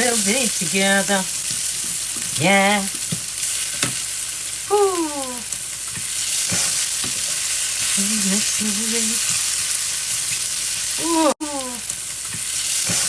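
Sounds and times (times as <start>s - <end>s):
steaks sizzling on a grill: 0.0s - 13.0s.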